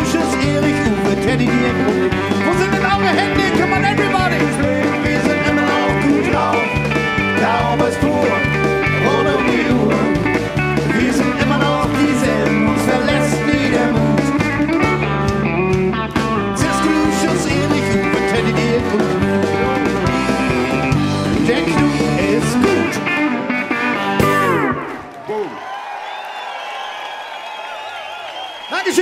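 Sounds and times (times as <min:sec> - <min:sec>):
pedal steel guitar: 0:00.0 - 0:25.0
country band playing: 0:00.0 - 0:25.2.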